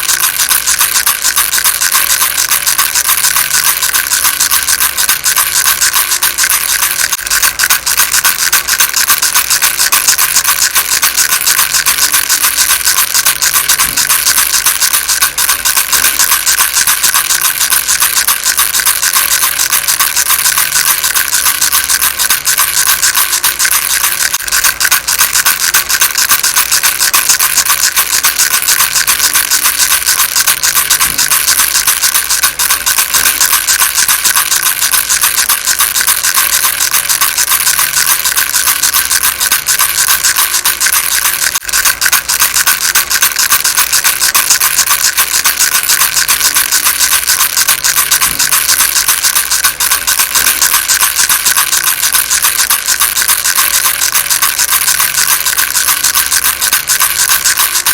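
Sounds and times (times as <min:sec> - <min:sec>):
rattle shaken fast: 0:00.0 - 0:57.9.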